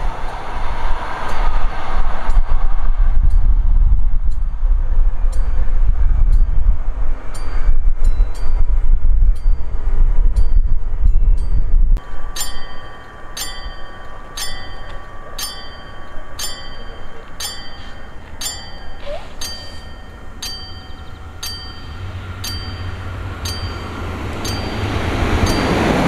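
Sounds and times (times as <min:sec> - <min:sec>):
train rumble: 0:00.0 - 0:26.0
railway warning bell ringing: 0:03.2 - 0:26.0.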